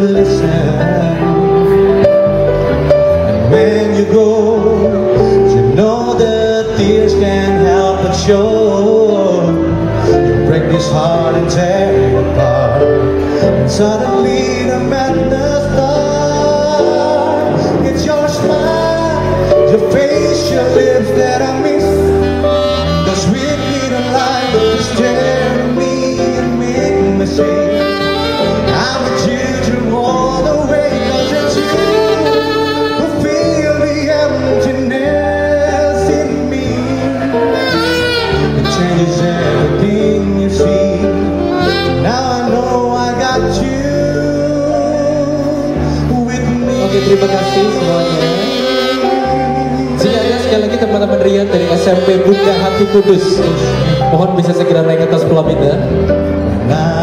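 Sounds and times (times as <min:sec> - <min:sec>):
jazz band playing: 0:00.0 - 0:57.0
man singing: 0:00.0 - 0:57.0
saxophone: 0:07.2 - 0:54.8.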